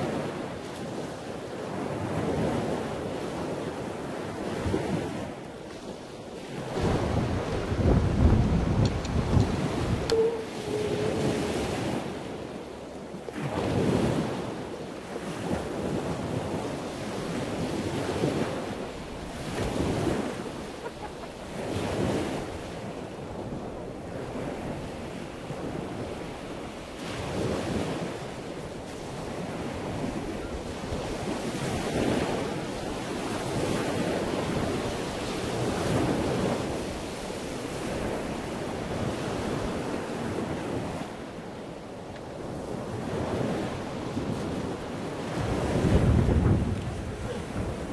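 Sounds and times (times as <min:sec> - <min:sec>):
wind buffeting microphone: 0:01.7 - 0:14.6, 0:15.2 - 0:41.2, 0:42.3 - 0:47.9.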